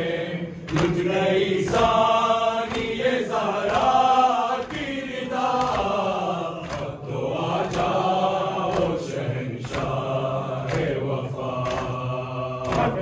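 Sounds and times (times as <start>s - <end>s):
men chanting a lament: 0.0s - 13.0s
sharp rhythmic chest strikes: 0.0s - 13.0s.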